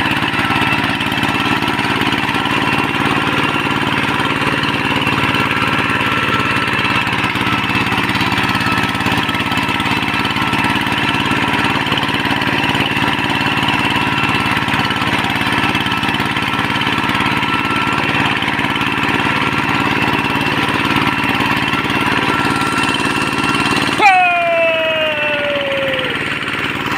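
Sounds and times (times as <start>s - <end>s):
tractor engine droning: 0.0s - 26.9s.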